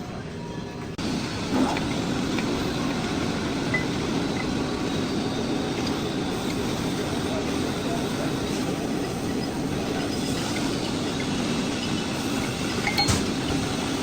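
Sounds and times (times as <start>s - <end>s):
metal lathe running: 1.0s - 14.0s.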